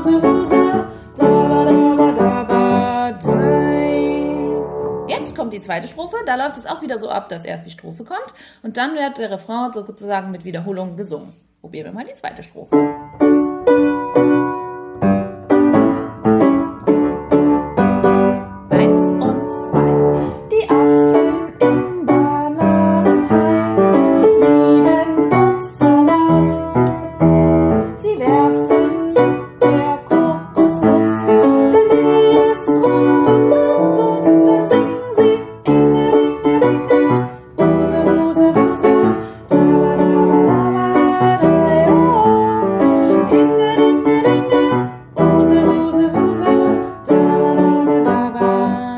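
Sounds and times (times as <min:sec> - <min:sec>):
piano playing children's song: 0:00.0 - 0:05.9, 0:12.7 - 0:48.9.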